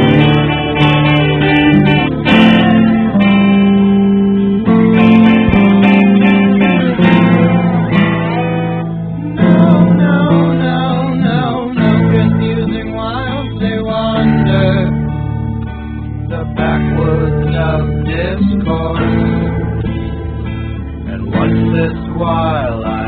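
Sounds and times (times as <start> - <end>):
acoustic guitar plucked and strummed: 0.0 - 23.0.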